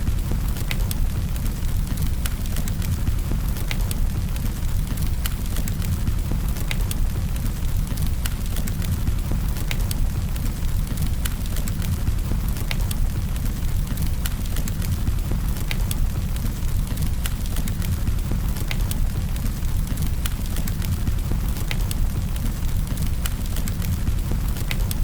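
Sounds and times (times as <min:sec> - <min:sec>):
fire crackles and pops: 0:00.0 - 0:25.0
campfire rumble: 0:00.1 - 0:25.0.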